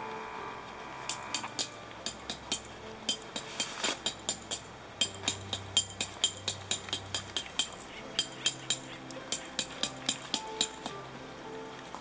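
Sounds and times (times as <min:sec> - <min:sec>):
low hum: 0:00.0 - 0:12.0
sharp metallic clinks: 0:01.0 - 0:11.0.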